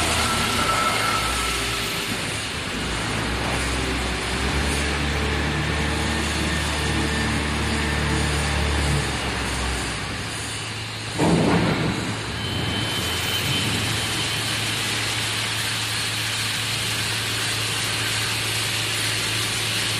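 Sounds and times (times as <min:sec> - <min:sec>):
factory hall low hum: 0:00.0 - 0:19.9.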